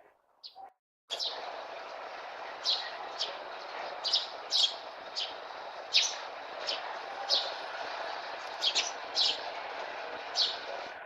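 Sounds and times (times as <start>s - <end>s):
sparrows chirping: 0.4s - 11.0s
steady background noise: 1.1s - 11.0s.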